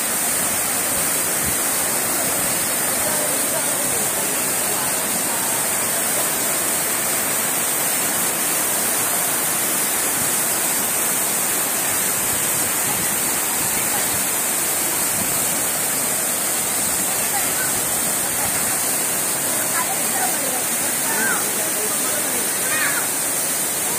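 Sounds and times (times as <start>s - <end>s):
flowing water rushing: 0.0s - 23.9s.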